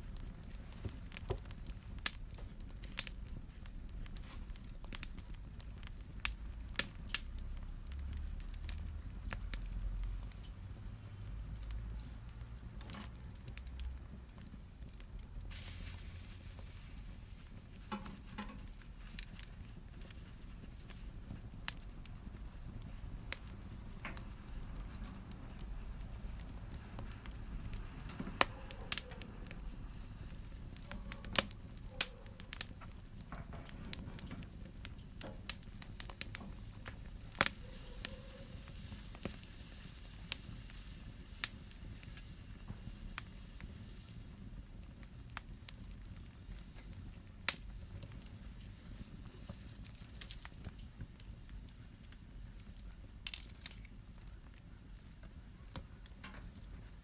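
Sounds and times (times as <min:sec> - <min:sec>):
fire crackling and popping: 0:00.0 - 0:57.0
rush of flame: 0:00.0 - 0:57.0.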